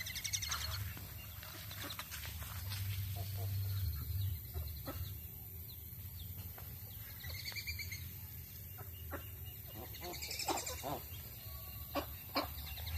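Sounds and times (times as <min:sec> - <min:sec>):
baby birds peeping: 0:00.0 - 0:12.9
steady low rumble: 0:00.0 - 0:12.9.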